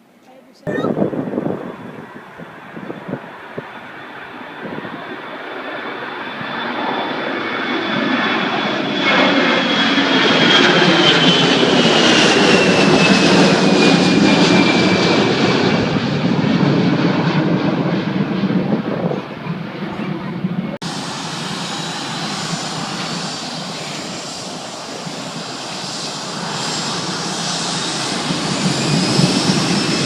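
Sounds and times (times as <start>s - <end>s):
aircraft engines passing: 0.1s - 30.0s.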